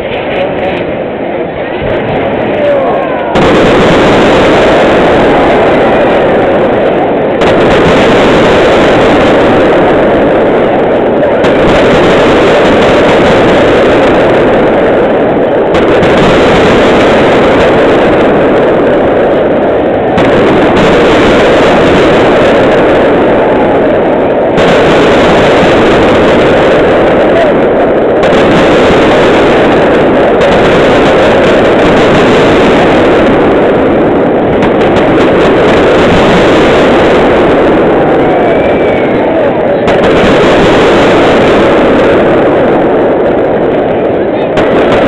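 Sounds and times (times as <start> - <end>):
fireworks barrage roar: 0.0 - 45.0.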